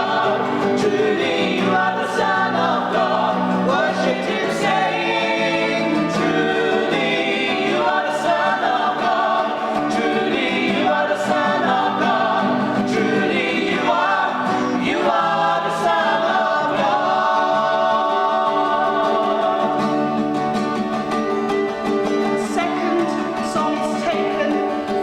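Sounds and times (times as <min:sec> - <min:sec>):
group singing a cappella: 0:00.0 - 0:25.0.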